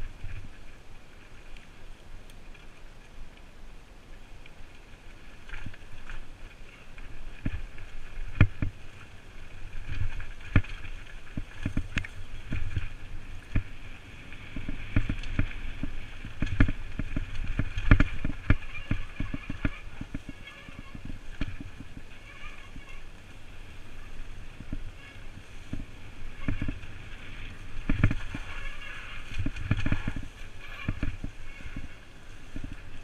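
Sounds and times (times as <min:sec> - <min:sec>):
bike tyres crunching over leaves: 0:00.0 - 0:33.0
bike knocking and rattling: 0:05.4 - 0:33.0.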